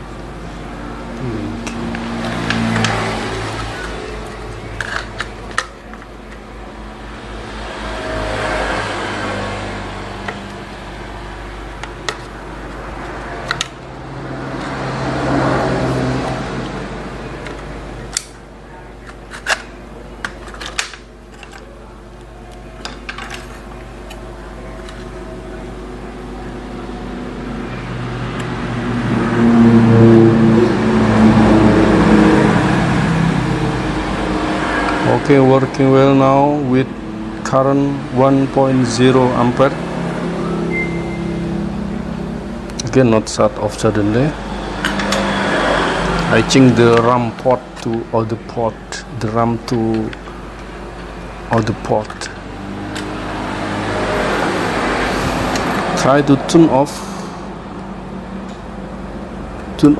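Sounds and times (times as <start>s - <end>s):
loud rumbling drone: 0.0s - 5.5s, 6.5s - 18.2s, 23.7s - 59.9s
low electrical hum: 0.0s - 59.9s.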